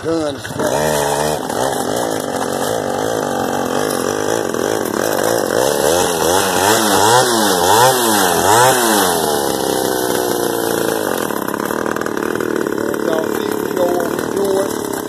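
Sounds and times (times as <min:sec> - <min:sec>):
small quad engine revving: 0:00.0 - 0:15.0.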